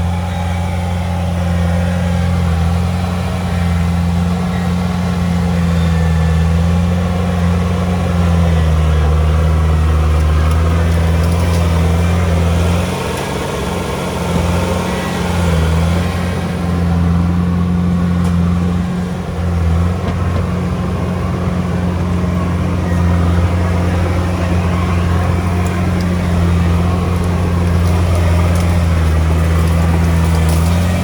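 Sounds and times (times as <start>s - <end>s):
heavy diesel engine droning: 0.0s - 31.0s.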